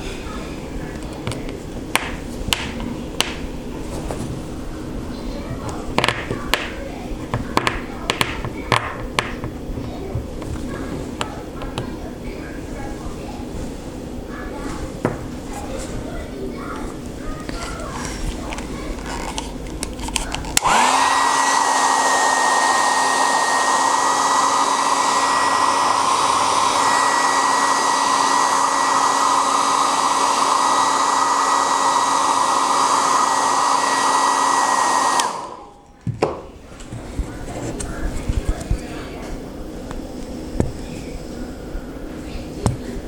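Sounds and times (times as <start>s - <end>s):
hot-air blower humming: 0.0s - 43.0s.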